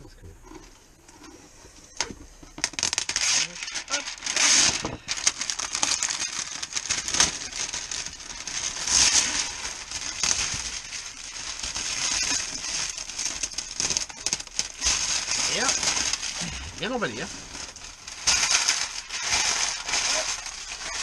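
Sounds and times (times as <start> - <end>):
plastic wrap crinkling: 1.9 - 21.0.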